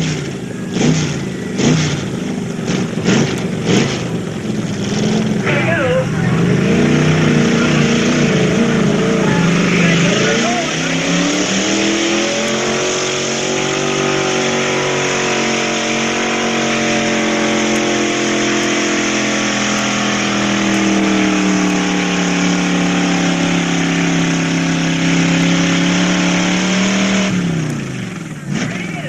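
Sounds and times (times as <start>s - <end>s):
truck engine at high revs: 0.0s - 29.0s.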